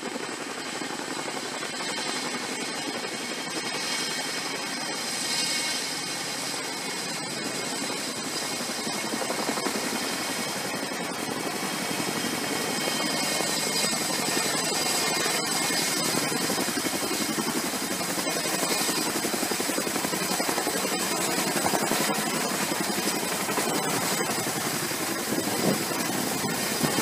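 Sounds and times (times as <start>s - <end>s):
helicopter rotor noise: 0.0s - 27.0s
high turbine whine: 0.0s - 27.0s.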